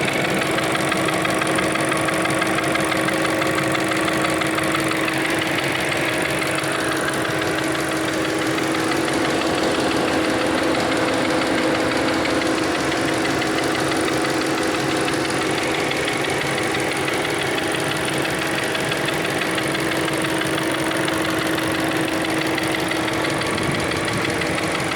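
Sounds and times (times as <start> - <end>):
car engine idling: 0.0 - 24.9
fast ticking rattle: 0.0 - 24.9
steady whining tone: 0.0 - 24.9.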